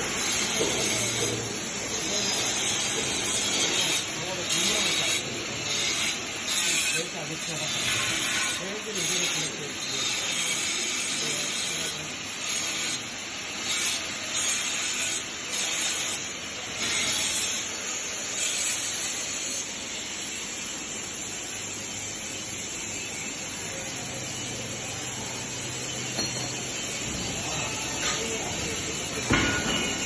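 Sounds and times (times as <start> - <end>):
welding arc hissing: 0.0 - 30.0.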